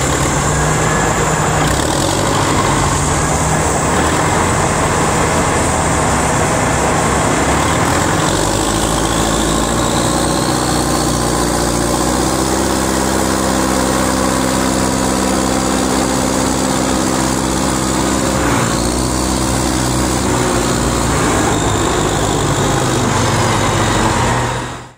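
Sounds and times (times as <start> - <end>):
diesel engine running under load: 0.0 - 24.9.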